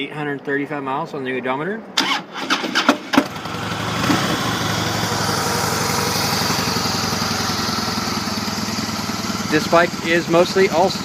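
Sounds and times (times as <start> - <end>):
motorcycle engine starting and idling: 2.0 - 11.0.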